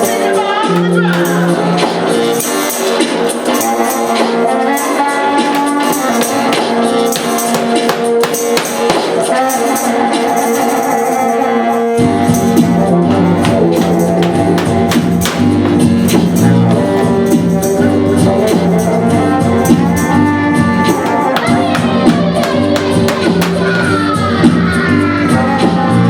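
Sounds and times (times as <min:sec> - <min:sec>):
rhythmic percussion: 0:00.0 - 0:24.8.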